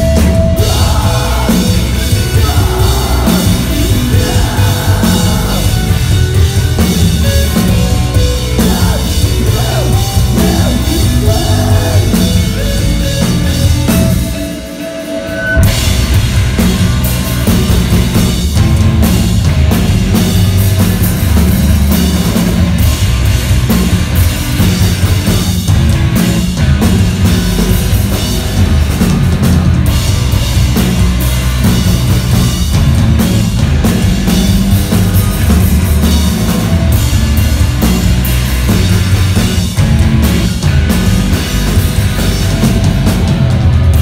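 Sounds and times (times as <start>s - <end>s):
bass guitar: 0.0s - 44.0s
drum kit: 0.0s - 44.0s
electric guitar: 0.0s - 44.0s.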